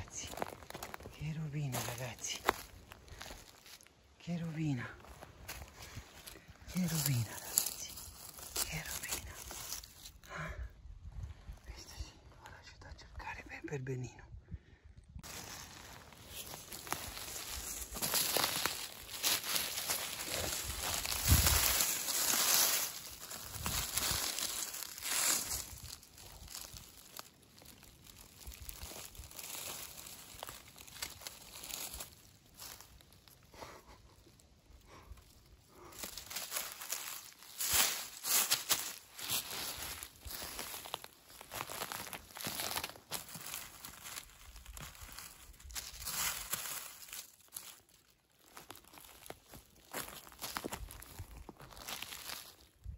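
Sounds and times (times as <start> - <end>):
dry leaves crinkling under a hand: 0.0 - 10.4, 15.2 - 52.9.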